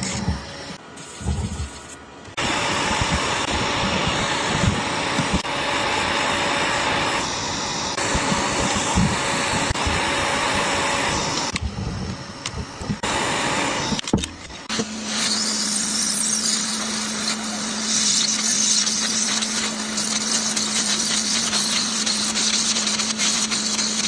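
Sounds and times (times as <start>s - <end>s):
small electric air blower: 0.0s - 24.0s.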